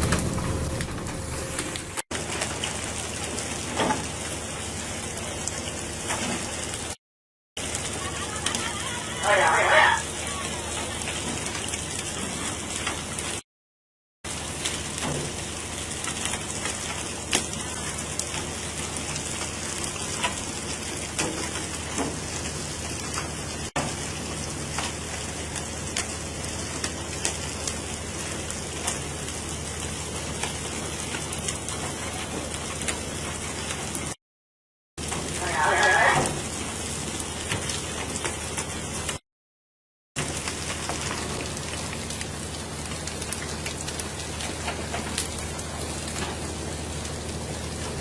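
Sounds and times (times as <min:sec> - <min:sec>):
water spraying along a hull: 0:00.0 - 0:07.0, 0:07.6 - 0:13.4, 0:14.3 - 0:34.2, 0:35.0 - 0:39.2, 0:40.2 - 0:48.0.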